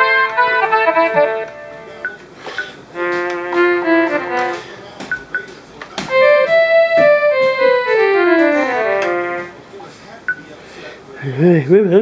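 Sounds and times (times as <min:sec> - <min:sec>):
electronic keyboard notes: 0:00.0 - 0:10.5.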